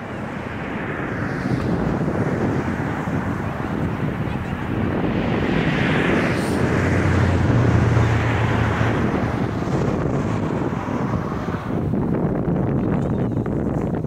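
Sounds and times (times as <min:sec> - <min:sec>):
jet engines rumbling: 0:00.0 - 0:14.0
wind buffeting microphone: 0:00.0 - 0:14.0.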